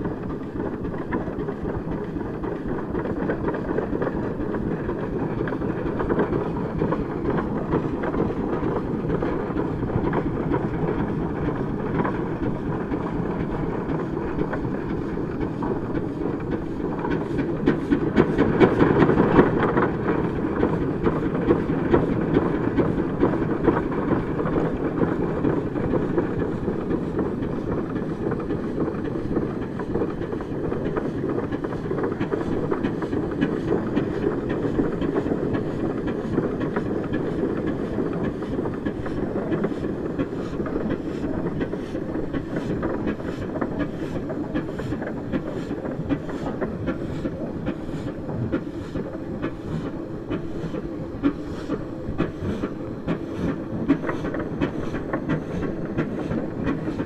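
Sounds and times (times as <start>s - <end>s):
steam engine rhythmic clatter: 0.0s - 57.0s.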